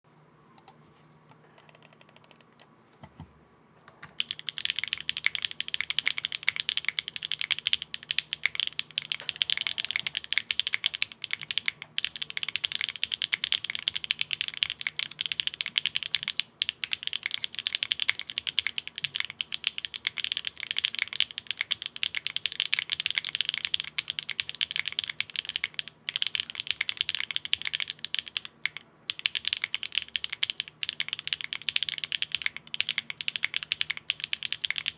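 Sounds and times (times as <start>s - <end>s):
mechanical keyboard typing: 1.6s - 2.6s, 4.1s - 34.9s.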